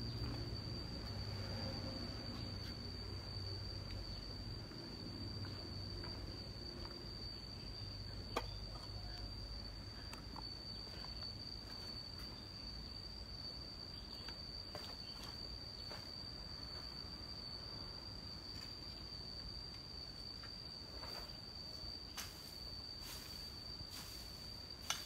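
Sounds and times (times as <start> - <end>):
high-pitched insect trill: 0.0 - 25.0.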